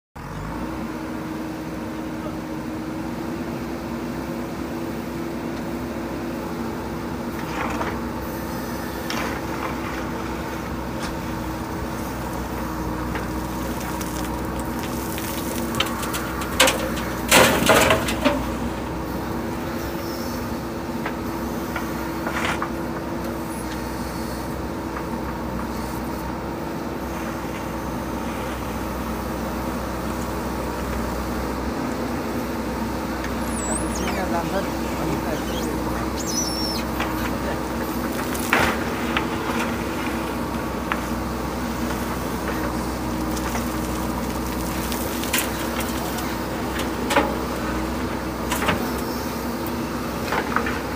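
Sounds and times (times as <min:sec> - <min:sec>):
diesel engine running: 0:00.2 - 0:50.9.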